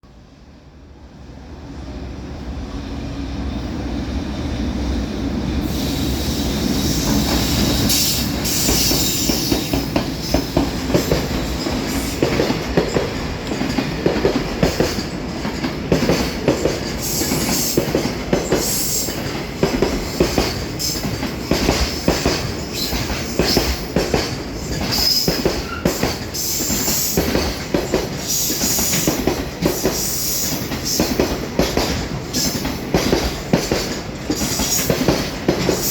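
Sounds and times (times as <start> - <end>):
electric locomotive passing: 0.2 - 35.9
train wheels clattering over rail joints: 6.9 - 35.9.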